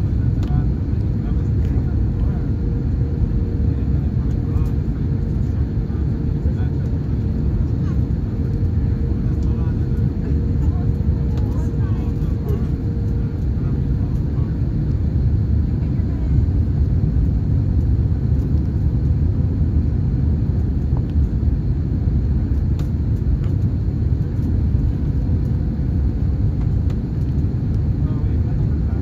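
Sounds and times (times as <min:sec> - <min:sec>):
airplane cabin low rumble: 0:00.0 - 0:29.0.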